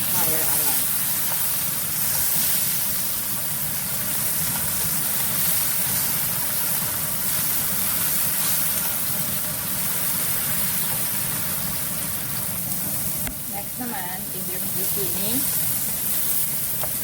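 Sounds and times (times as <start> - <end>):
exhaust fan whirring: 0.0 - 17.0.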